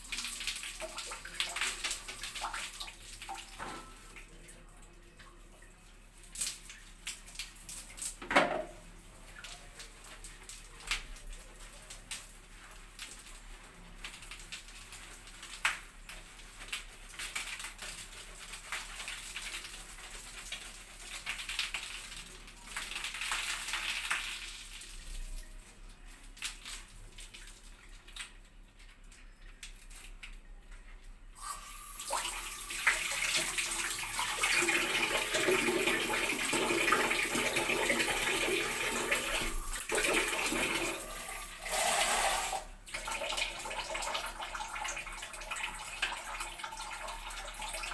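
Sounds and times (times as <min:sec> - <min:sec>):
water running and splashing: 0:00.0 - 0:30.4, 0:31.4 - 0:47.9.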